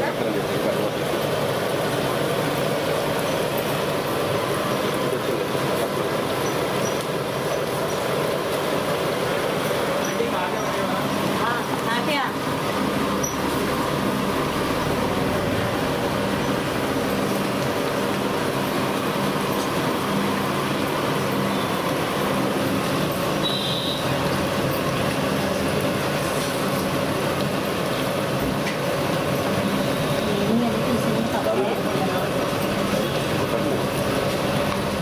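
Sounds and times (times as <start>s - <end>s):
batter deep-frying in oil: 0.0s - 35.0s.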